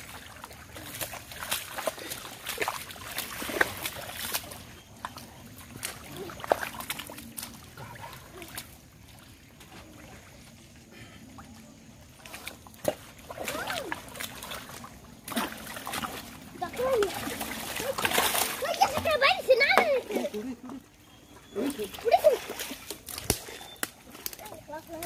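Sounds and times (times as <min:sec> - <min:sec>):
mud squelching and splashing: 0:00.0 - 0:25.0.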